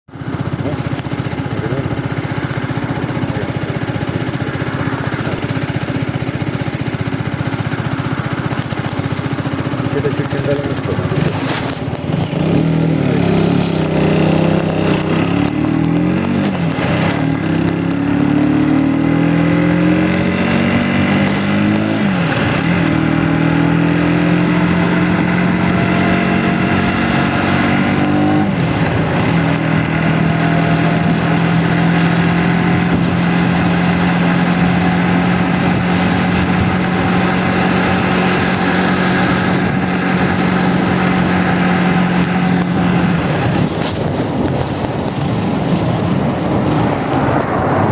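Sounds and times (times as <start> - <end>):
motorcycle engine shifting gears: 0.1 - 47.9.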